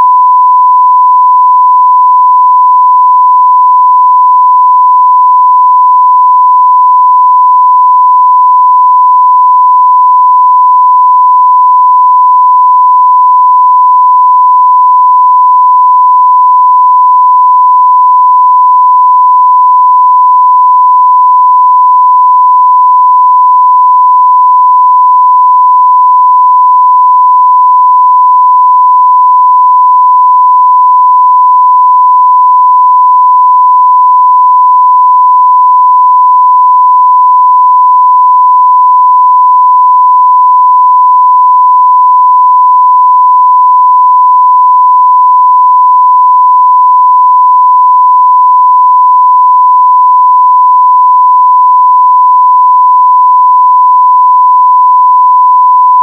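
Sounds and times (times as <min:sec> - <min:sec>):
sine-wave test tone: 0:00.0 - 0:56.0.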